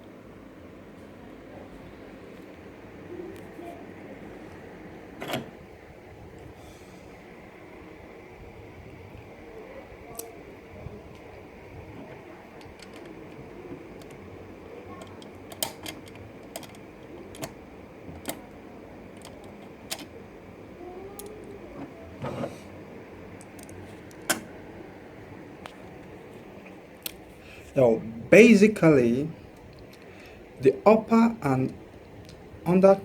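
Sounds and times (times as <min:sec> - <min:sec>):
low background hiss: 0:00.0 - 0:33.0.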